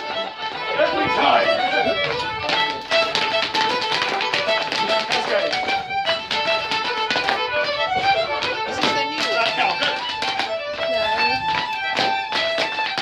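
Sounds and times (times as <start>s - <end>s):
fiddle dance tune: 0.0s - 13.0s
shoes knocking on paving: 0.0s - 13.0s.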